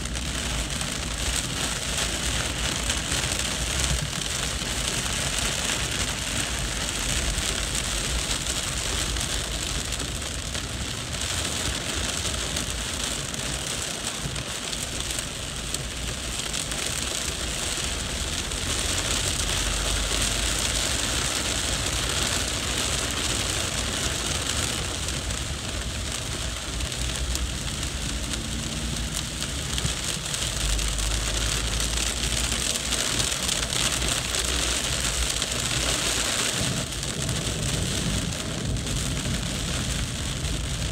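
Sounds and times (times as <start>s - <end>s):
heavy rain on street: 0.0s - 40.9s.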